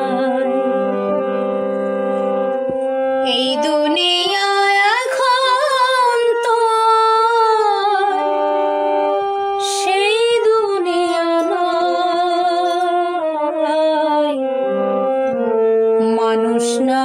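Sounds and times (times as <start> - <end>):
woman singing with vibrato: 0.0 - 1.6, 3.3 - 14.6, 16.0 - 17.0
harmonium held notes: 0.0 - 17.0.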